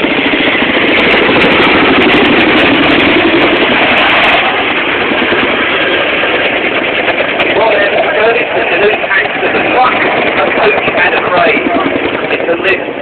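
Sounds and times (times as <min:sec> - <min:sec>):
helicopter engines running loud: 0:00.0 - 0:13.0
helicopter rotor blades chopping: 0:00.0 - 0:13.0.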